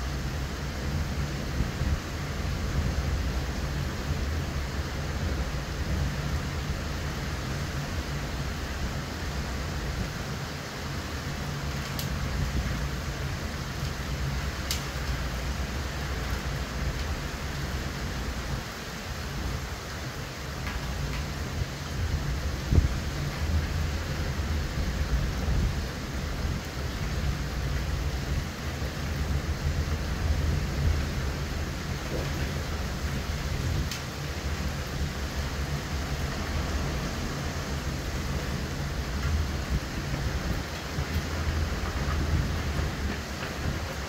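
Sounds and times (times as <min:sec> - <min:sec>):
heavy rain: 0:00.0 - 0:44.0
hurricane wind: 0:00.0 - 0:44.0.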